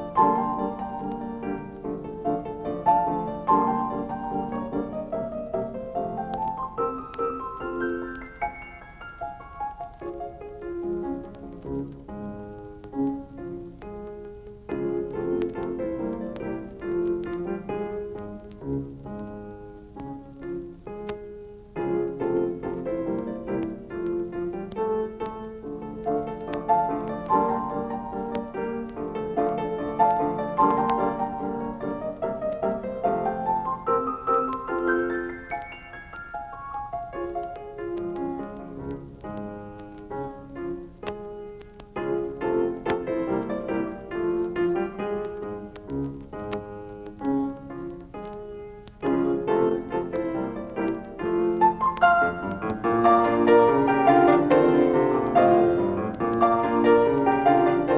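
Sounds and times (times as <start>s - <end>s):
lively piano music: 0.0s - 57.9s.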